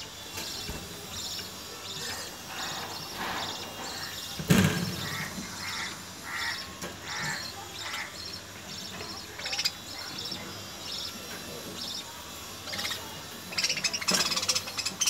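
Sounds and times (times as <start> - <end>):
budgerigars chirping: 0.3 - 15.0.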